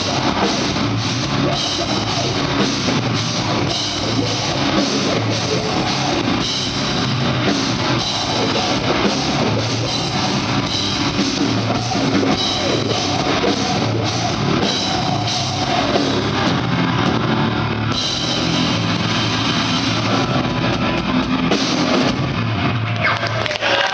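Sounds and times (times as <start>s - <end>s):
distorted electric guitar: 0.0s - 23.9s
fast drum kit: 0.0s - 23.9s.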